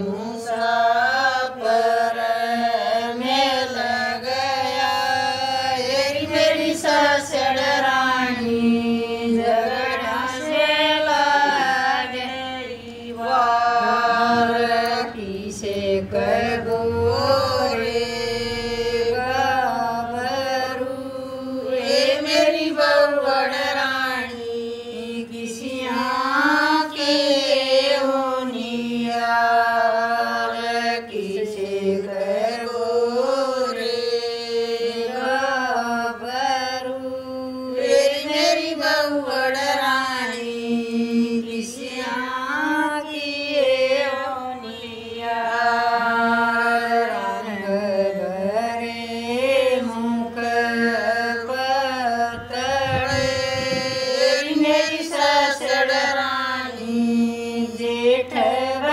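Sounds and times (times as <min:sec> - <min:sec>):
women singing in unison: 0:00.0 - 0:58.9.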